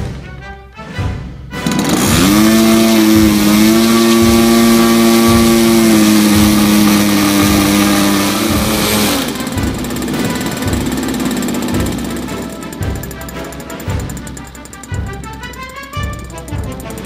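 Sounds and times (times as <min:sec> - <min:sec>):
model aircraft engine buzzing: 0:01.6 - 0:17.0.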